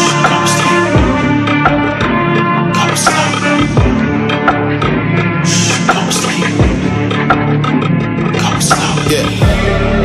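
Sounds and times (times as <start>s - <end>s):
heavy bass line: 0.0s - 10.0s
hip-hop track: 0.0s - 10.0s.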